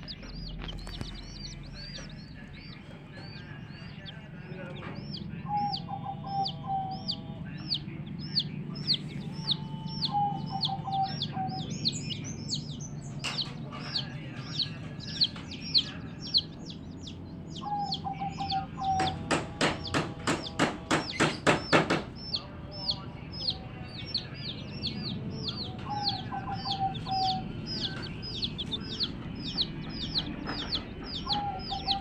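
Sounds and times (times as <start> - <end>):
baby chicks peeping: 0.0 - 32.0.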